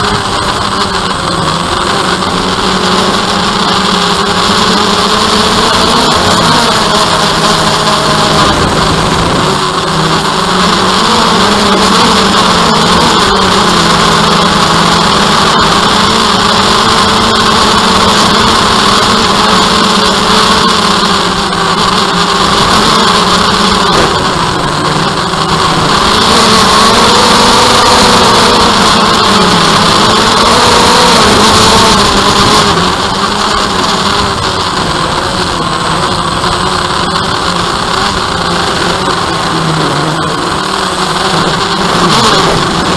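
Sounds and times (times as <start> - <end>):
quadcopter propellers buzzing: 0.0 - 42.9.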